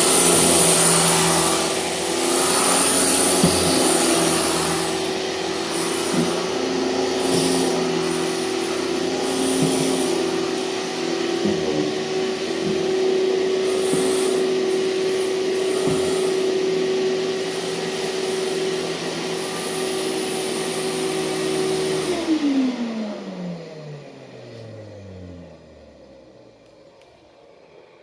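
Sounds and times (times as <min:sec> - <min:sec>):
vacuum motor whining: 0:00.0 - 0:27.9.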